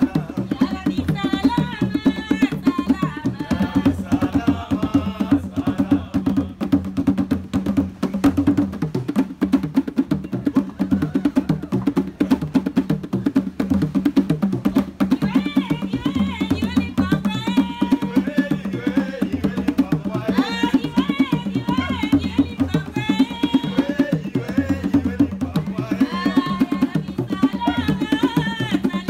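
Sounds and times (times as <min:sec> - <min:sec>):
fast driving drumming: 0:00.0 - 0:29.0
low drum tones: 0:00.0 - 0:29.0.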